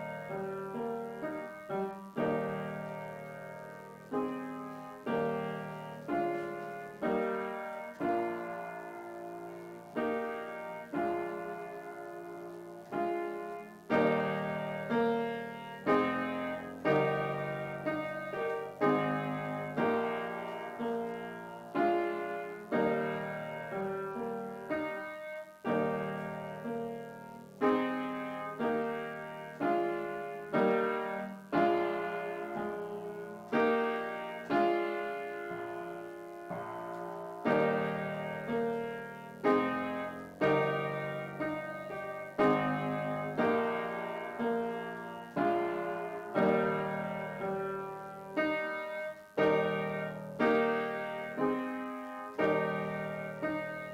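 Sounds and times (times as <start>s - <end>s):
piano chords: 0.0s - 53.9s.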